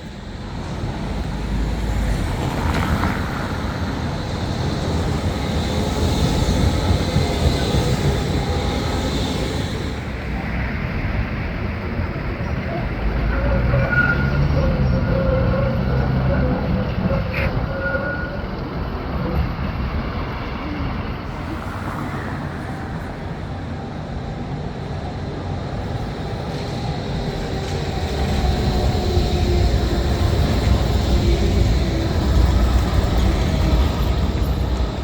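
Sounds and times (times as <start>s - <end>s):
faint steady tram tones: 0.0s - 35.0s
traffic noise: 0.0s - 35.0s
tram running along street: 0.0s - 35.0s.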